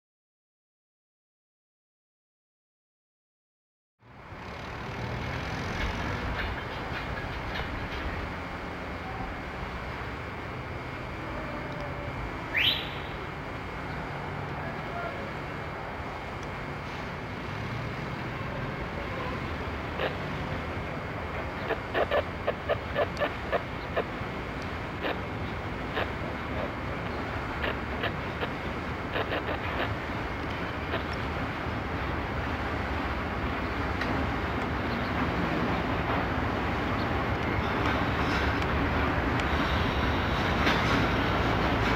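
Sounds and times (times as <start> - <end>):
diesel locomotive rumbling: 4.0 - 41.9.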